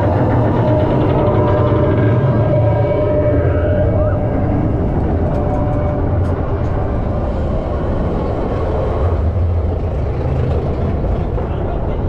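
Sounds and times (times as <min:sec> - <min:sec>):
roller coaster train rumbling: 0:00.0 - 0:12.0.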